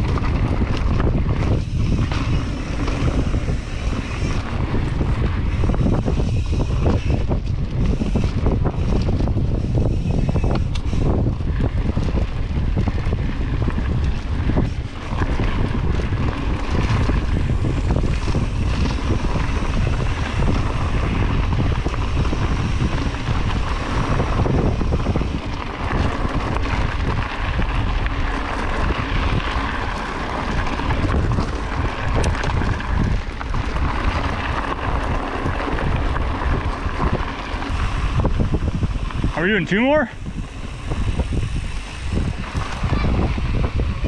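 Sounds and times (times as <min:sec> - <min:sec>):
wind buffeting camera microphone: 0:00.0 - 0:44.0.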